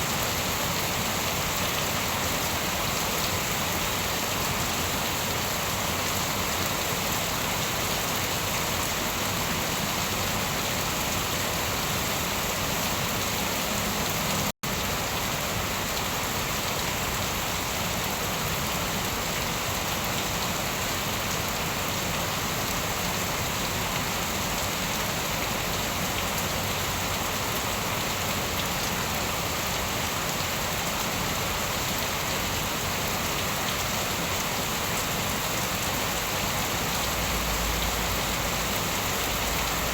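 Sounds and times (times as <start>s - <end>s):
dense rain pattering: 0.1s - 39.9s.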